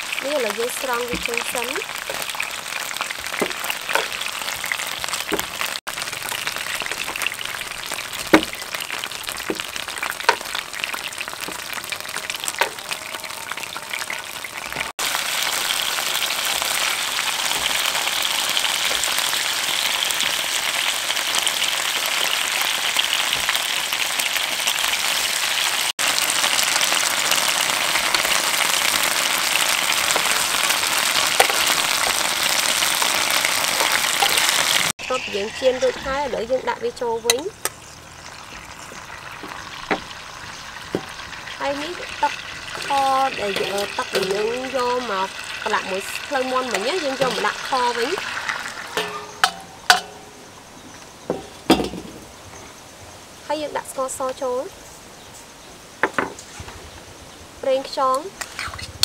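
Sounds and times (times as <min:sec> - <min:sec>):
oil popping: 0:00.0 - 0:35.2, 0:37.3 - 0:50.4
chicken sizzling in oil: 0:00.0 - 0:50.5.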